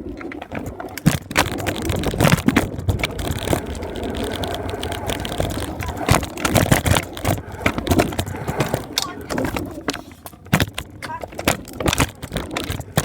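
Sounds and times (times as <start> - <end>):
scooter wheels rolling: 0.0 - 13.0.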